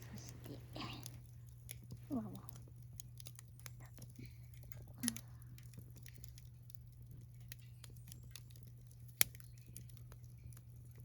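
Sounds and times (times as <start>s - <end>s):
faint low hum: 0.0s - 11.0s
wood fire crackling: 0.0s - 11.0s.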